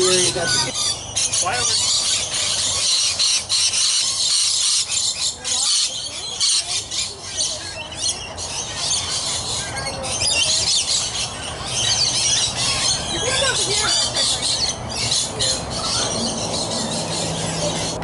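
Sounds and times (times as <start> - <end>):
parrots screeching and chattering: 0.0 - 18.0.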